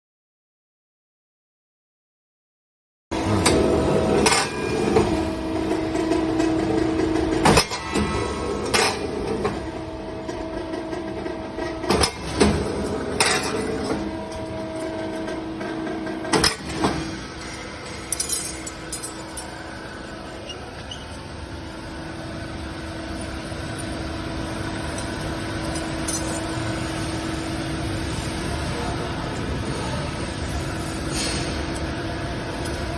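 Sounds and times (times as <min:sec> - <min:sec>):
machinery humming: 0:03.2 - 0:32.9.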